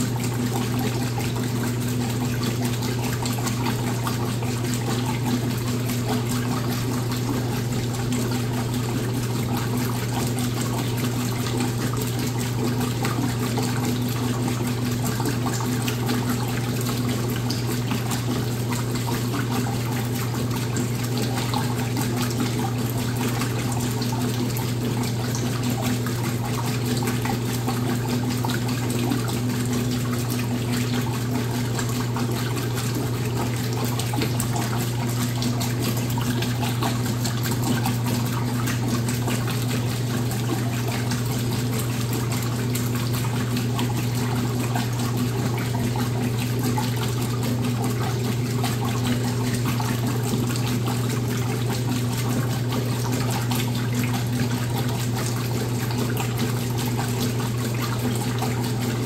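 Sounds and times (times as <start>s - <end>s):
washing machine hum: 0.0s - 59.0s
water rushing in washing machine: 0.0s - 59.0s.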